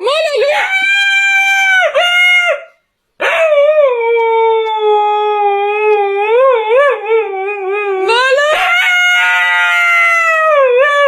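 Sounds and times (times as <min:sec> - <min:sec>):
dog howling: 0:00.4 - 0:11.0.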